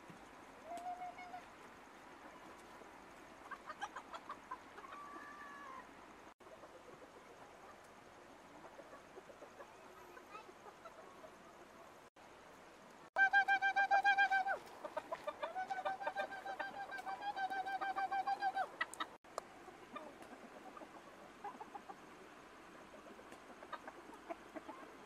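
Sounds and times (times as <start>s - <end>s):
chickens clucking: 2.2s - 5.8s, 6.4s - 12.1s, 13.2s - 25.0s.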